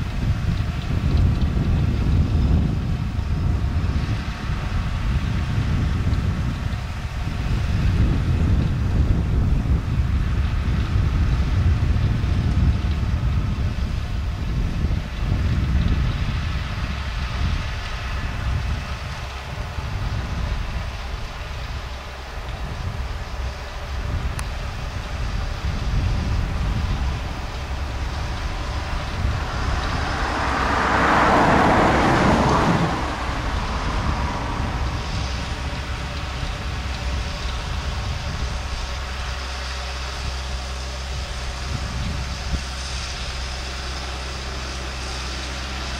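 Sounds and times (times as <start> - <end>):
road vehicle passing: 0.0 - 45.9
tractor diesel engine running: 0.0 - 45.9.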